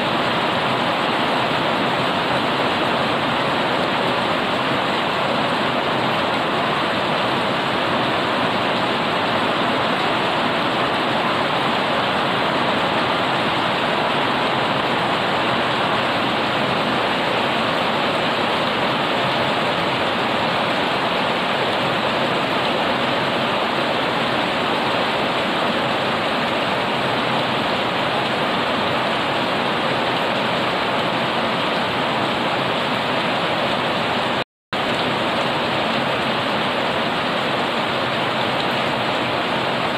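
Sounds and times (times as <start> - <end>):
heavy rain on foliage and path: 0.0 - 39.9.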